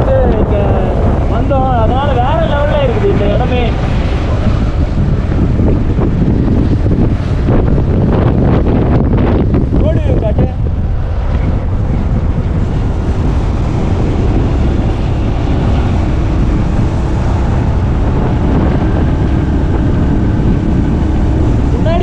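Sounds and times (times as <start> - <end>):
motorcycle engine hum: 0.0 - 22.0
wind rumble on microphone: 0.0 - 22.0.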